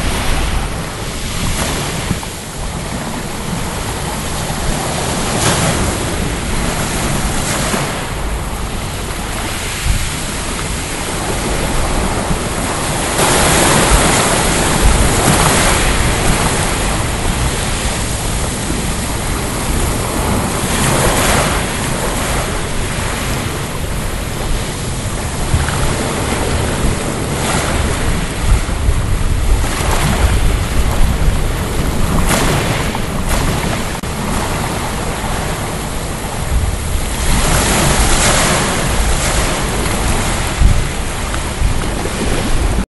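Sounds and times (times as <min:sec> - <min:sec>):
waves washing onto pebble beach: 0:00.0 - 0:42.8
wind buffeting microphone: 0:00.0 - 0:42.9.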